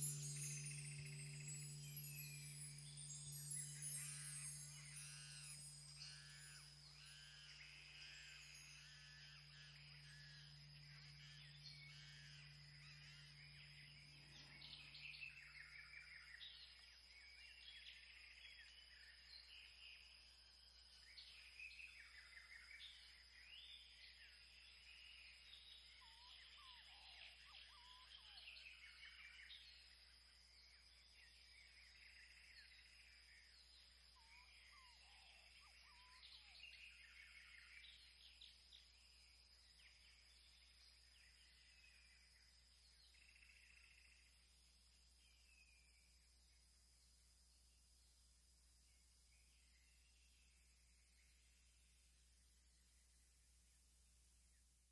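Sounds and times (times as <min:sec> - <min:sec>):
faint steady high tone: 0:00.0 - 0:47.3
small birds chirping and trilling: 0:00.0 - 0:47.8.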